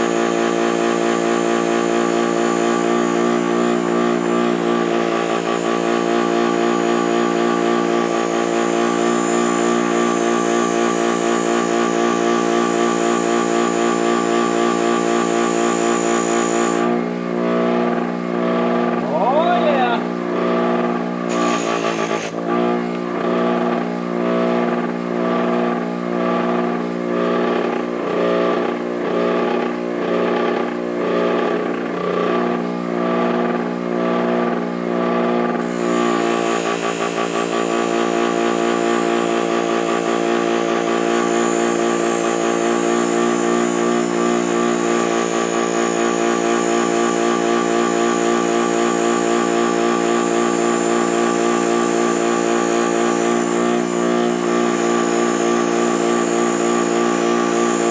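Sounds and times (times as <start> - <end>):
buffing wheel grinding metal: 0.0 - 57.9.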